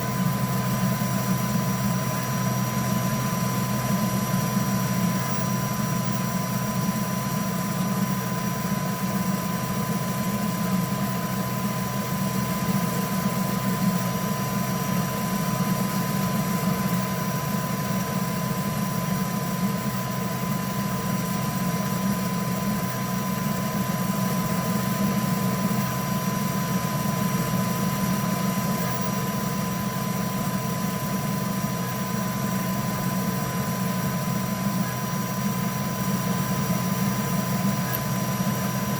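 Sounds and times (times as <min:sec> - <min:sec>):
printer humming with high whine: 0:00.0 - 0:38.9.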